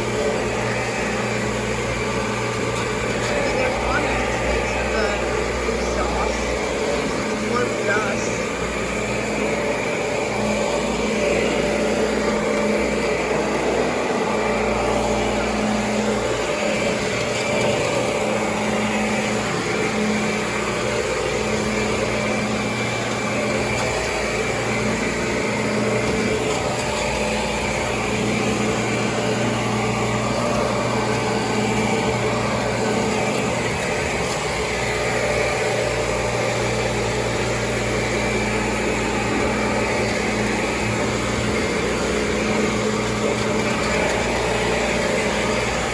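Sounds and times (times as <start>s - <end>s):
upright vacuum cleaner running: 0.0s - 45.9s.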